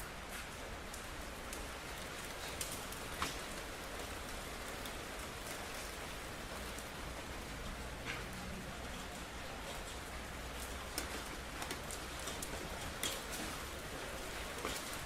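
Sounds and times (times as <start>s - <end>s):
rain on hard surfaces: 0.0s - 15.0s
raindrops ticking: 0.1s - 15.0s.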